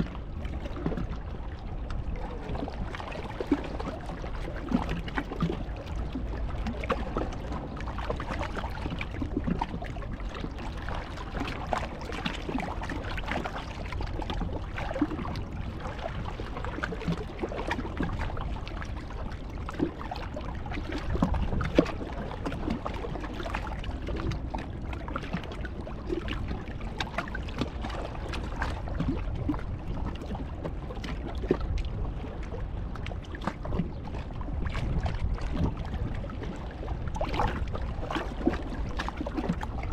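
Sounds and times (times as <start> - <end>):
sea rushing: 0.0 - 39.9
wind: 0.0 - 39.9.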